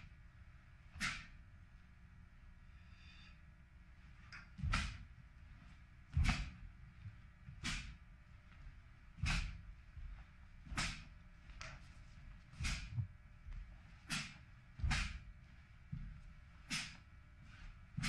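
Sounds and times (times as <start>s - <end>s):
swishing snaps of martial arts moves: 0.8s - 1.4s, 4.0s - 18.0s.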